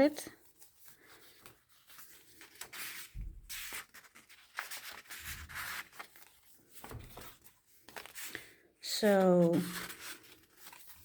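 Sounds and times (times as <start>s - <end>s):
paper and card rustling: 0.0s - 11.0s.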